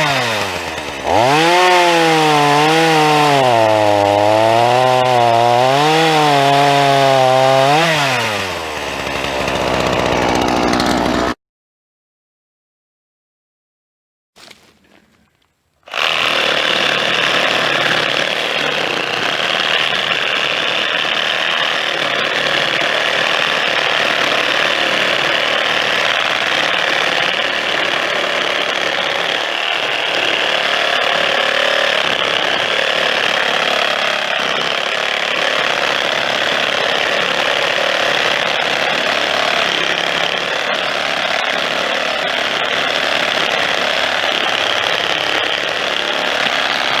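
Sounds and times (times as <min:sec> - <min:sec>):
power saw running: 0:00.0 - 0:11.4, 0:15.9 - 0:47.0.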